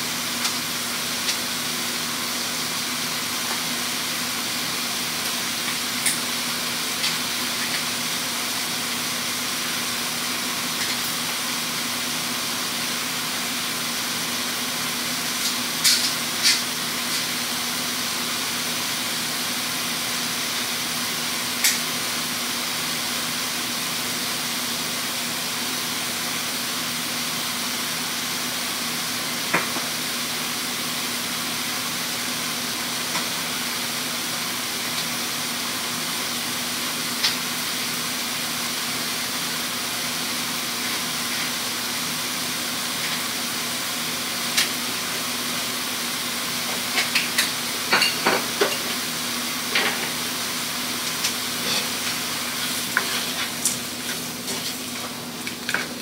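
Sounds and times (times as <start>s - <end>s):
vegetables sizzling in a pan: 0.1s - 56.0s.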